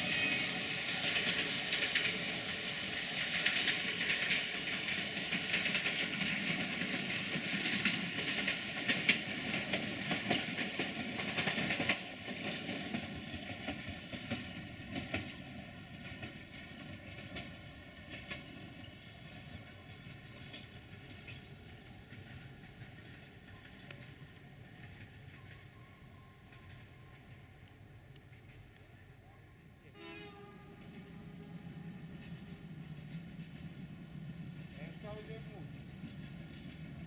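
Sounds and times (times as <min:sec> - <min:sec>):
train wheels clicking over rail joints: 0:00.0 - 0:29.1, 0:29.9 - 0:37.0.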